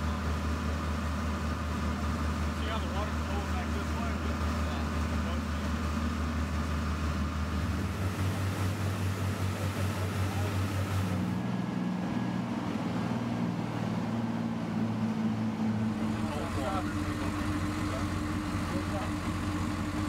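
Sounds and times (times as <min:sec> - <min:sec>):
boat diesel engine running: 0:00.0 - 0:20.0
water churning: 0:00.0 - 0:20.0.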